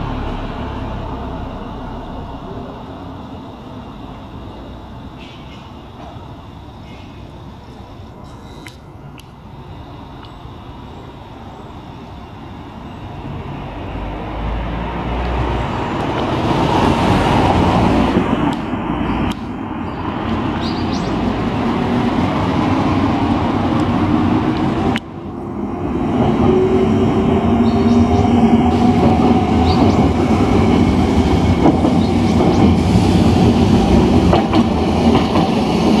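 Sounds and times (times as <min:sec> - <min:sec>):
tram wheels on rails: 0:00.0 - 0:36.0.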